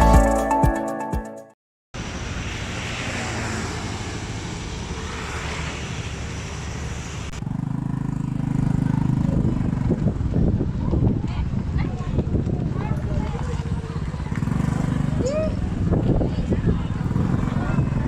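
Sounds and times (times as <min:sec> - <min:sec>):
motor vehicle running: 0:02.0 - 0:18.0.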